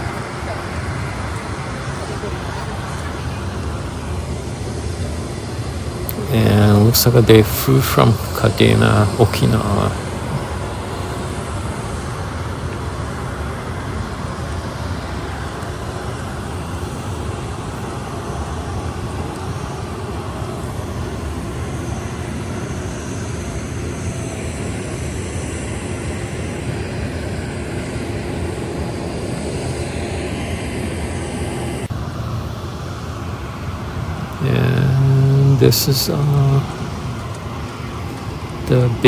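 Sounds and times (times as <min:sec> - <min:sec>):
faint high whine: 0:00.0 - 0:39.0
low rumbling noise: 0:00.0 - 0:39.0.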